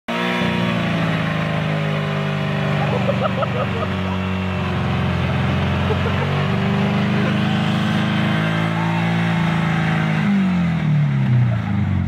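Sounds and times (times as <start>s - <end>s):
car engine revving high: 0.1s - 12.0s.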